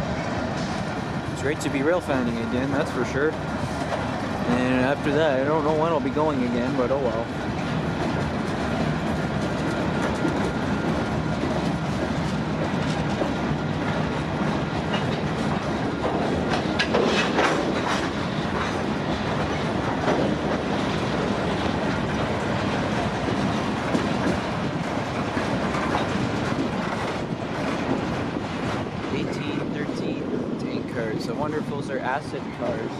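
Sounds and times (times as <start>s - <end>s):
freight train wheels rumbling: 0.0s - 32.9s
clicking over rail joints: 0.1s - 29.1s.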